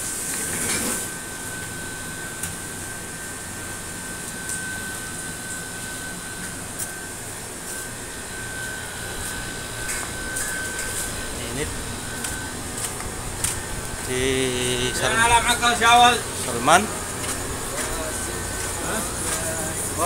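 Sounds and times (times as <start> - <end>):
thin high whistle: 0.9 - 17.0.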